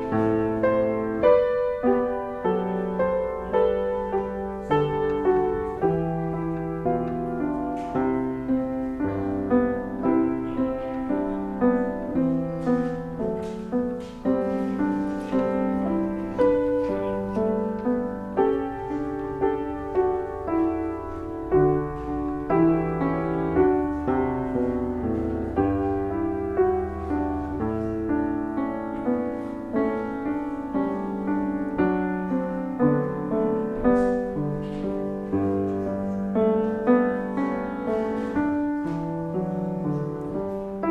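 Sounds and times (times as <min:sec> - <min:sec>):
solo piano playing: 0:00.0 - 0:40.9.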